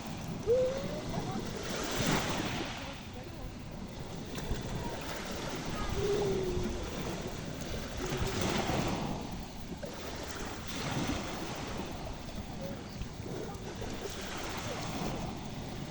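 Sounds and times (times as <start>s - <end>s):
sea waves washing in: 0.0s - 15.9s
wind buffeting microphone: 0.0s - 15.9s.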